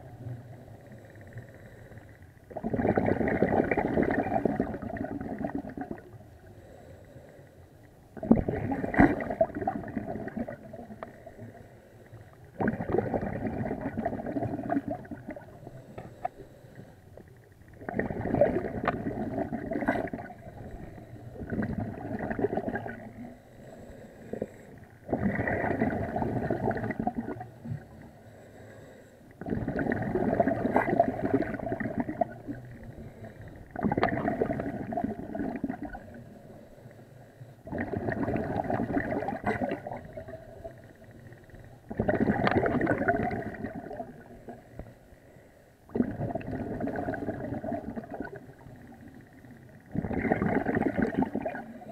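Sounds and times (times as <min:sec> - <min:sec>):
underwater regulator bubbles: 0:02.3 - 0:06.3, 0:08.1 - 0:11.6, 0:12.5 - 0:16.4, 0:17.2 - 0:28.1, 0:29.4 - 0:36.4, 0:37.6 - 0:45.0, 0:45.9 - 0:51.9.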